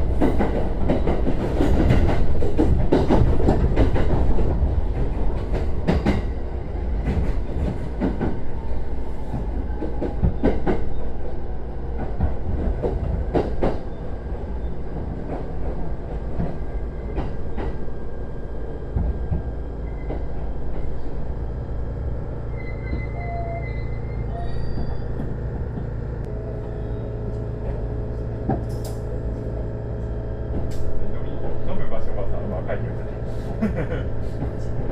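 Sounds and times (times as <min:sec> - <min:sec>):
electric train rumbling: 0:00.0 - 0:34.9.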